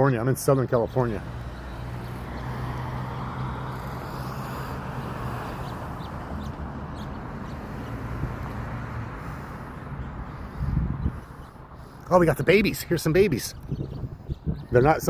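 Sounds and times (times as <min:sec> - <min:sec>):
traffic hum: 0:00.0 - 0:15.0.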